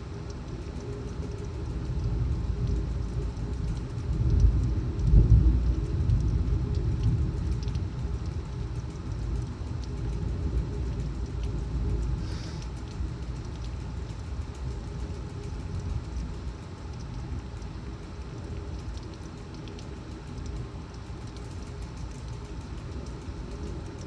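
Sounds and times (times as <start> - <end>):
raindrops ticking: 0.0 - 24.0
torrential rain: 0.0 - 24.0.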